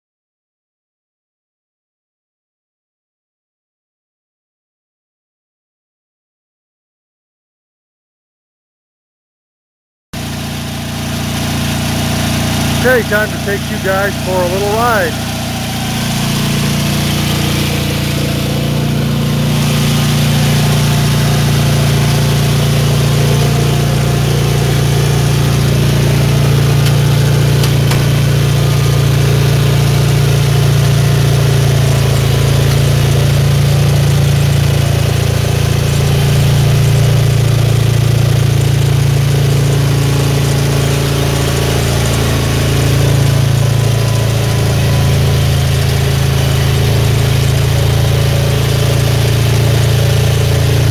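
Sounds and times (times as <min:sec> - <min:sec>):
garden tractor engine running: 0:10.2 - 0:50.9.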